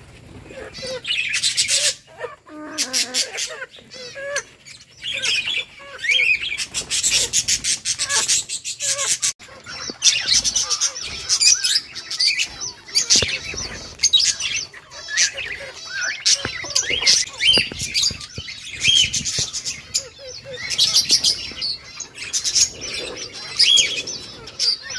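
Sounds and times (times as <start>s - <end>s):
lovebirds chirping and chattering: 0.0s - 24.9s.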